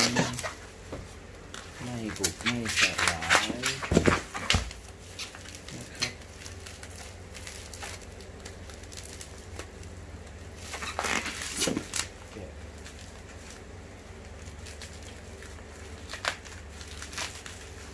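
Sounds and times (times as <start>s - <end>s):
bubble wrap crinkling: 0.0s - 17.9s.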